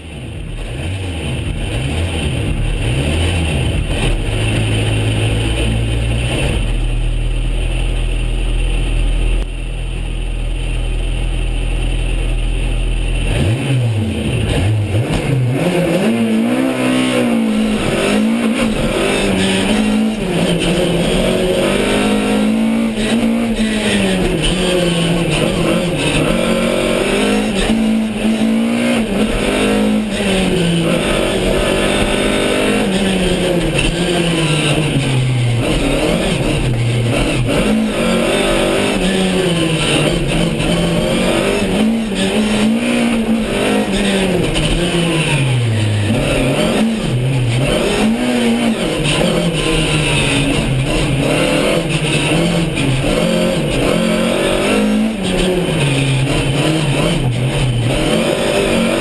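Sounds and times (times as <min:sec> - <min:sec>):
car engine revving: 0:00.0 - 0:59.0
gear changes: 0:00.0 - 0:59.0.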